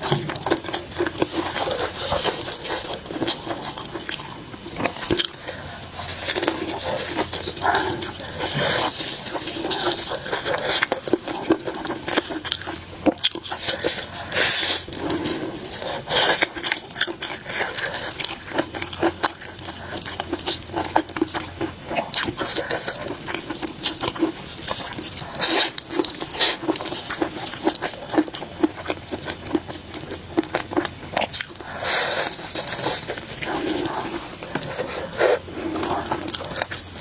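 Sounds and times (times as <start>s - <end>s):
close chewing with wet smacks: 0.0s - 37.0s.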